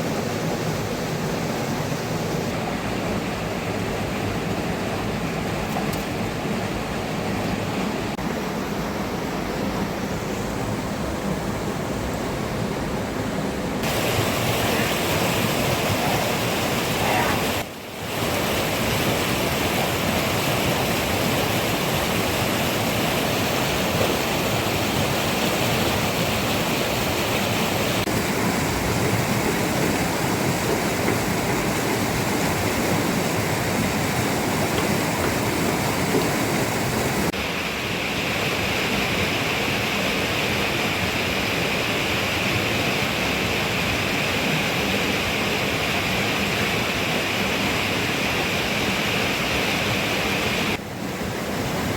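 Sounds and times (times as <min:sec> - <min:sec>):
rushing water: 0:00.0 - 0:51.9.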